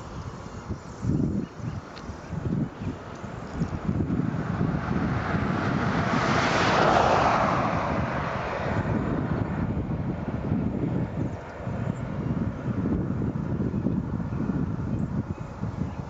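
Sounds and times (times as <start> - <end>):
distant engine passing: 0.0 - 15.7
wind rumble on microphone: 0.0 - 16.0.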